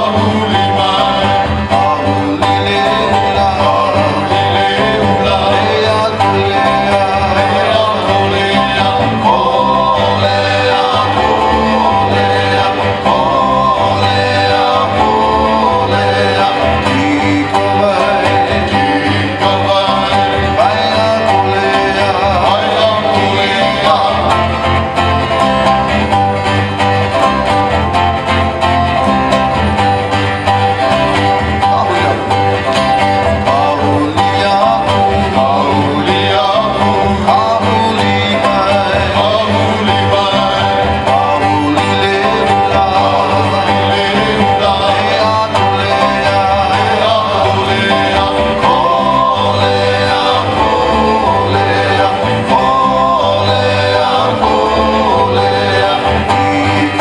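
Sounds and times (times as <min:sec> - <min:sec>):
man singing: 0:00.0 - 0:57.0
plucked and strummed strings: 0:00.0 - 0:57.0.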